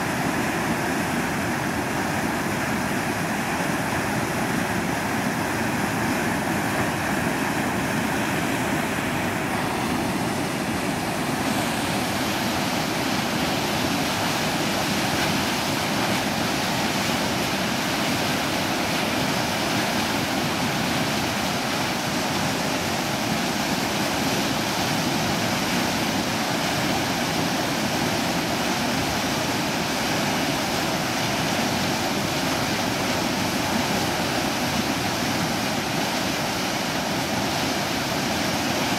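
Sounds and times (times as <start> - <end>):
whitewater rushing: 0.0 - 38.9.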